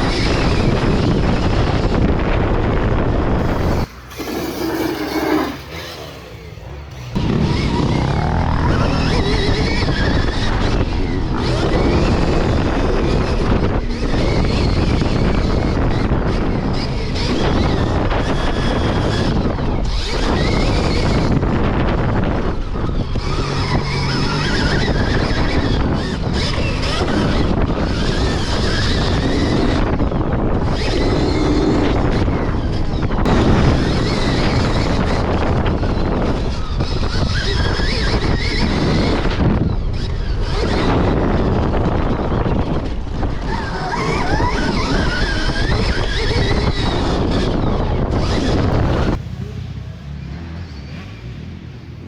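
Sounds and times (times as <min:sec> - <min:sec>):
electric motorbike motor whine: 0:00.0 - 0:51.0
wind buffeting on microphone: 0:00.0 - 0:51.4.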